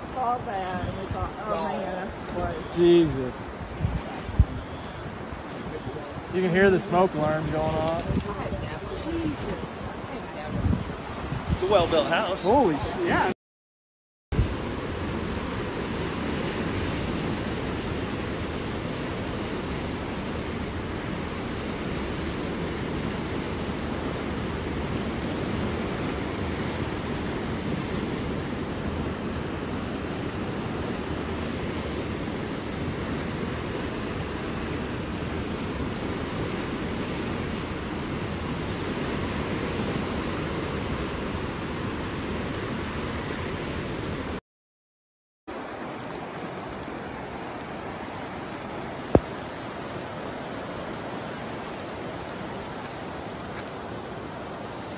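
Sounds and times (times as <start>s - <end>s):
floodwater rushing: 0.0s - 13.4s, 14.4s - 44.4s, 45.5s - 54.9s.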